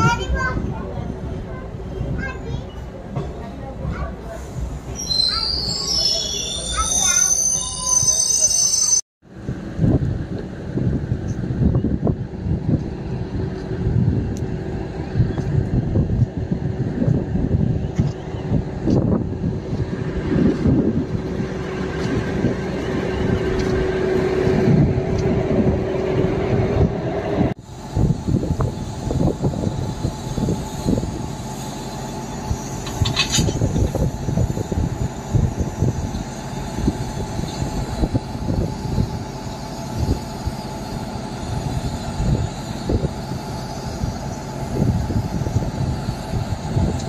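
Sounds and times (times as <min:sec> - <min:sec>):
locomotive machinery rumble and hum: 0:00.0 - 0:47.0
diesel train engine idling: 0:09.3 - 0:47.0.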